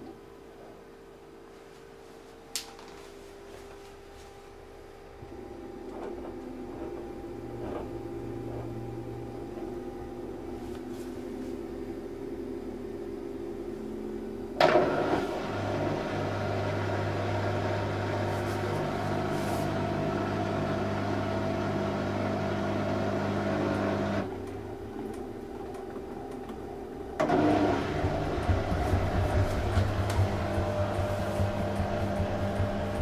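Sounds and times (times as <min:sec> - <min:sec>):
washing machine motor hum: 0:03.1 - 0:33.0.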